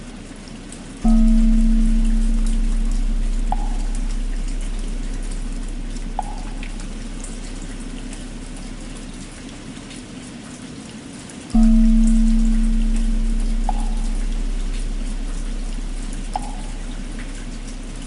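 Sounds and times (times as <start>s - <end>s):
steady rain: 0.0s - 18.0s
deep bell ringing: 1.0s - 9.5s, 11.6s - 18.0s.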